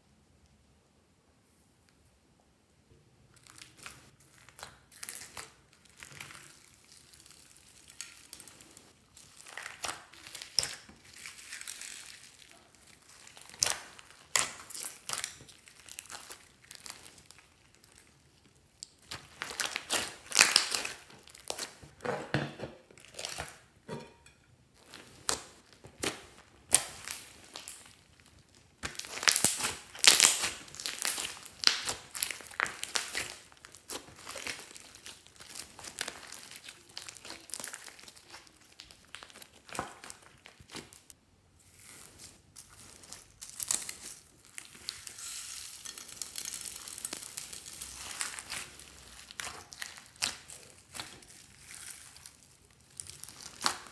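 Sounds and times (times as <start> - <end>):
slime crackling and popping: 3.4 - 22.0, 24.8 - 41.2, 41.8 - 53.9.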